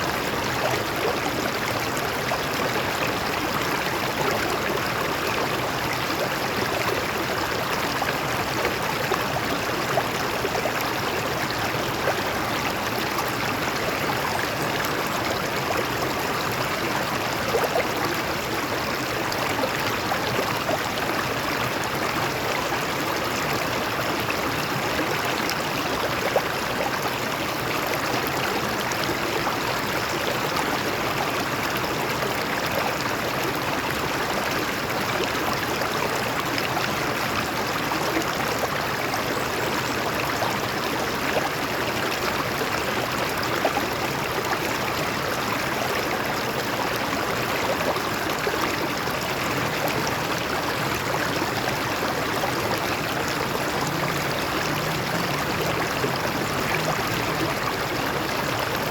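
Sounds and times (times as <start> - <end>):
stream flowing over rocks: 0.0 - 58.9
water splashes and gurgles: 0.0 - 58.9.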